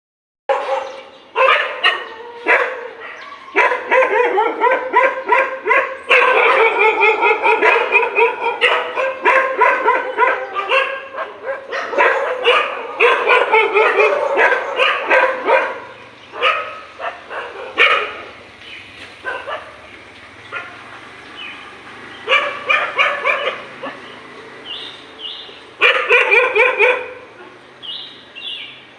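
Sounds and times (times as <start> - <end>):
dogs fighting and barking: 0.5 - 18.5, 19.1 - 25.2, 25.8 - 27.8.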